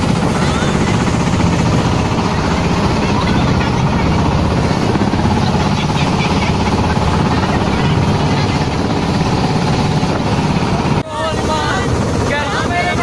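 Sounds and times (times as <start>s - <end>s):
motorboat engine rumbling: 0.0s - 13.0s.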